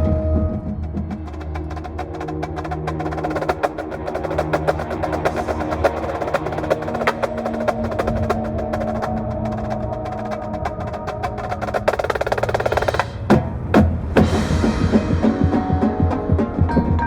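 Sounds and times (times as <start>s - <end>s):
drumline stick strokes: 0.8s - 16.5s.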